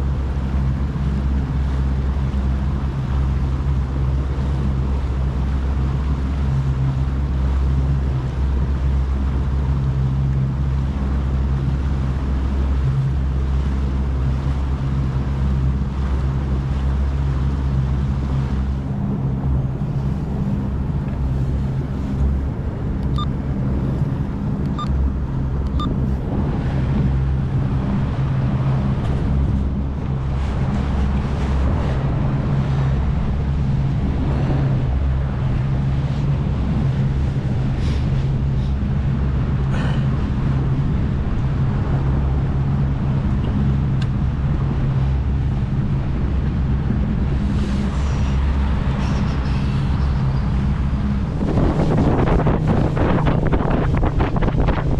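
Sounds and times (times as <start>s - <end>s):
boat engine humming: 0.0s - 54.9s
water noise: 0.0s - 54.9s
wind: 0.0s - 54.9s.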